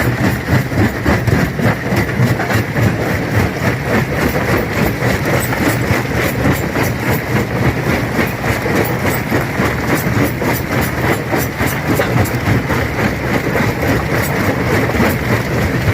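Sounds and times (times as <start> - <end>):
stone crusher rumbling: 0.0 - 15.9.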